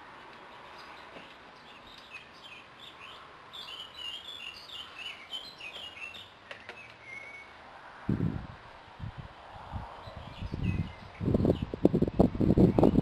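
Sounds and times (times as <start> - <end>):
songbird singing: 0.0 - 7.6, 9.8 - 13.0.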